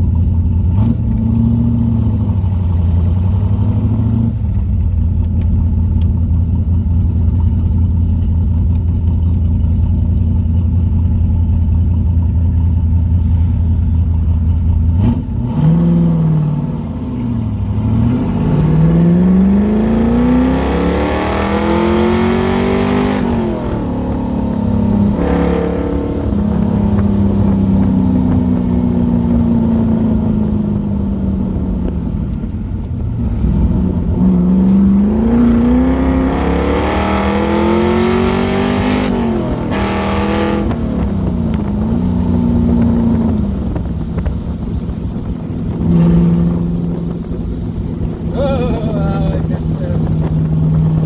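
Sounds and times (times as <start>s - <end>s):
car engine accelerating through gears: 0.0s - 51.0s.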